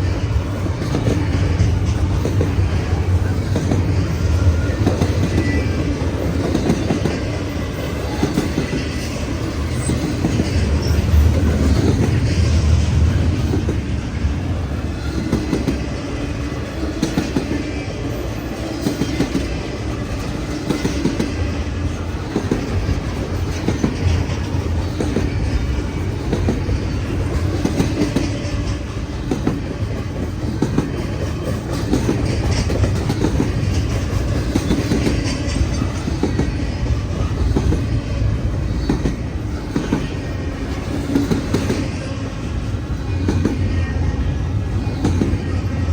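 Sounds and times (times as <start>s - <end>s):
freight train rumbling past: 0.0s - 45.9s.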